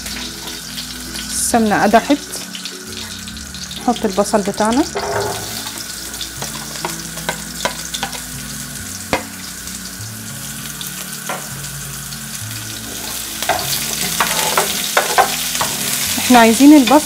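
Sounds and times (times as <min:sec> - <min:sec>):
onion sizzling in pan: 0:00.0 - 0:17.0.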